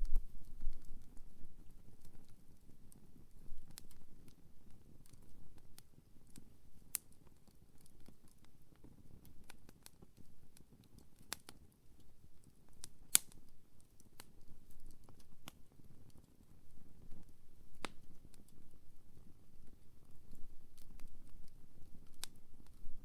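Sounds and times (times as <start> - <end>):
campfire crackling and popping: 0.0 - 23.0
low rustle of flame: 0.0 - 23.0.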